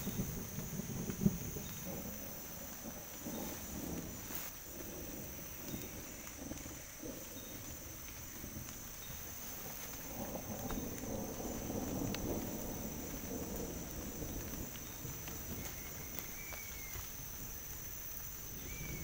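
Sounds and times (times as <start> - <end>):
forest insects droning: 0.0 - 19.0
thunder rumbling: 0.0 - 19.0.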